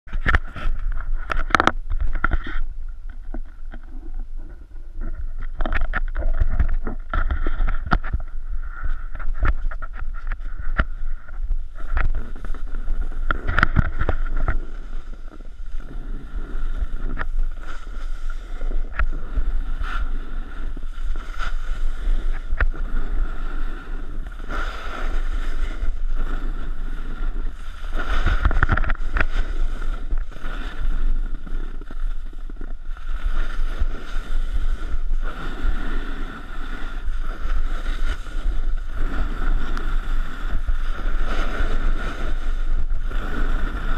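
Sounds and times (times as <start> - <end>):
snowboard scraping over snow: 6.3 - 43.9.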